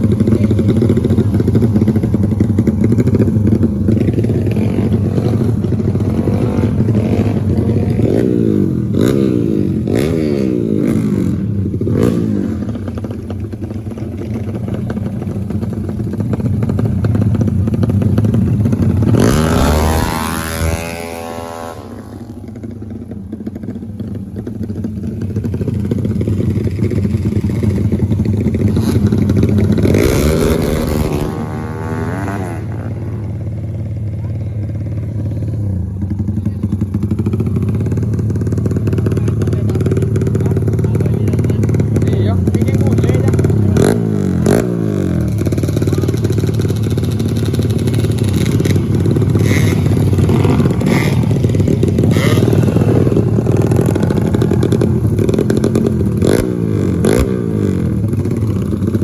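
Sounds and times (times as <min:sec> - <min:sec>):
racing motorcycle engines revving: 0:00.0 - 0:59.0.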